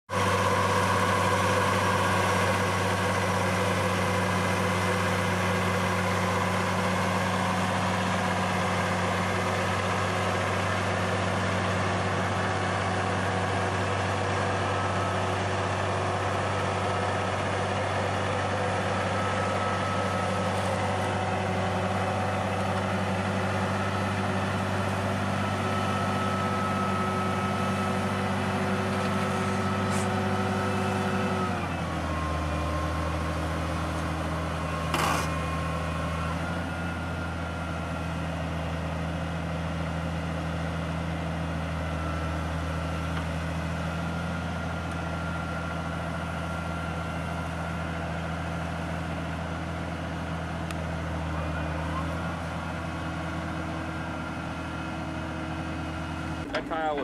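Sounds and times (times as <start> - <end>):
tractor diesel engine running: 0.1 - 57.0.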